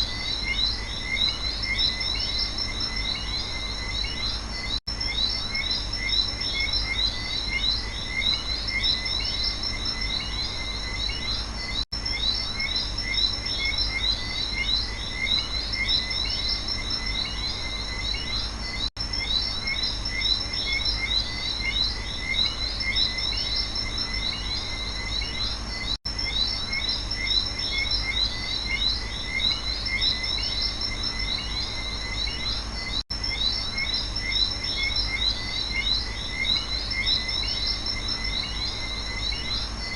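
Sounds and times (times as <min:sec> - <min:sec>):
frogs and insects chirping: 0:00.0 - 0:39.9.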